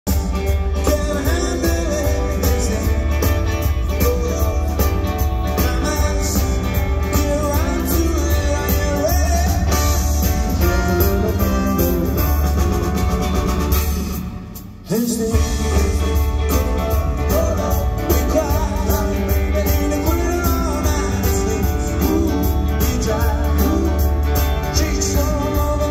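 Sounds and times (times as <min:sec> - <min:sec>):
band playing swing and rock music: 0:00.0 - 0:25.9
person singing: 0:00.1 - 0:12.6, 0:14.8 - 0:25.9.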